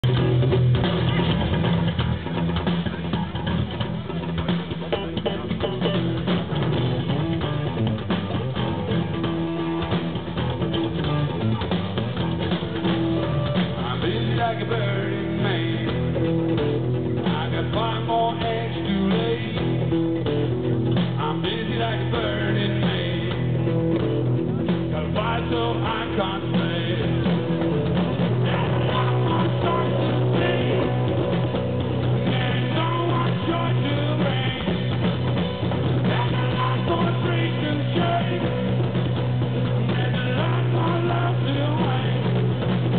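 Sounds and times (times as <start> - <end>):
drum kit: 0.0 - 42.9
electric guitars: 0.0 - 42.9.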